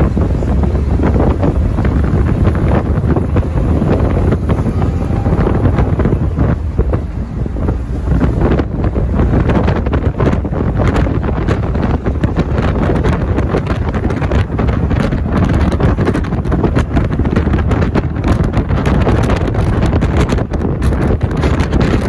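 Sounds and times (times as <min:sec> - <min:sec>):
vehicle road noise: 0:00.0 - 0:22.0
wind buffeting microphone: 0:00.0 - 0:22.0.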